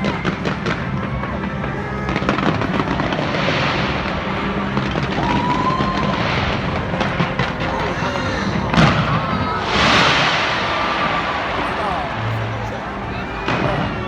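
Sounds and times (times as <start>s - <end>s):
fireworks bangs: 0.0s - 14.0s
fireworks crackling: 0.0s - 14.0s
music playing: 0.0s - 14.0s.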